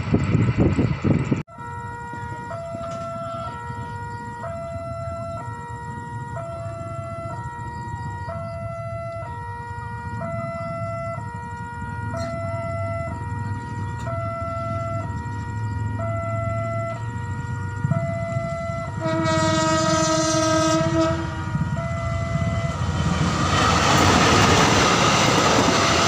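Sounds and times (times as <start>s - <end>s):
train rumble: 0.0s - 26.0s
level-crossing alarm two-tone: 1.5s - 26.0s.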